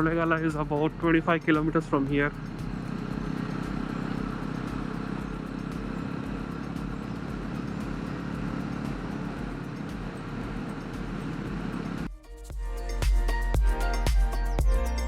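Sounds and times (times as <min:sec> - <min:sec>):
motorcycle engine running: 0:00.0 - 0:12.1
wind and road noise: 0:00.0 - 0:12.1.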